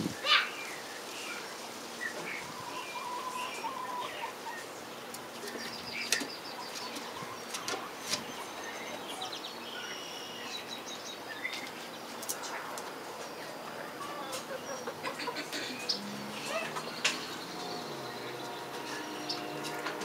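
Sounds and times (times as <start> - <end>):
chickens chirping and trilling: 0.0 - 20.0.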